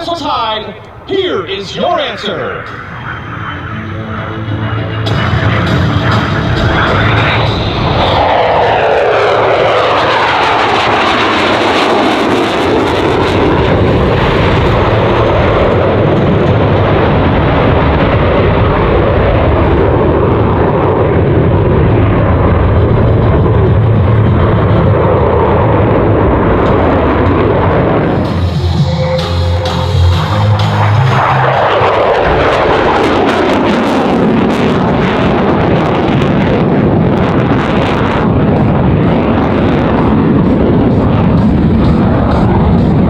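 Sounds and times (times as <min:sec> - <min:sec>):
jet engines passing: 0:00.0 - 0:43.0.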